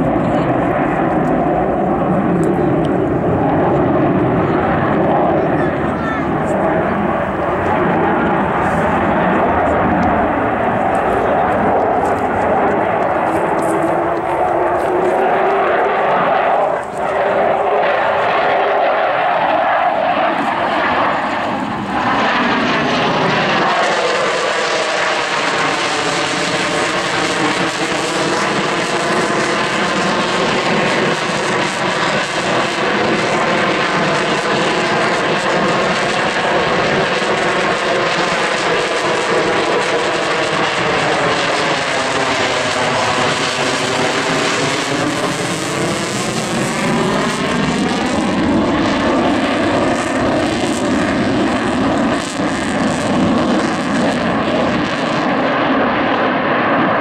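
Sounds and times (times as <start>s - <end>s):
fighter jet roaring: 0.0s - 57.0s.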